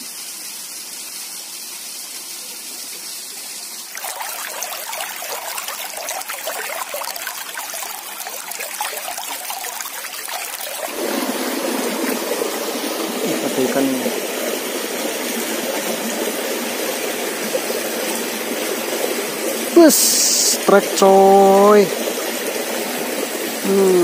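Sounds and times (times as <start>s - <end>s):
stream rushing over rocks: 0.6s - 24.0s.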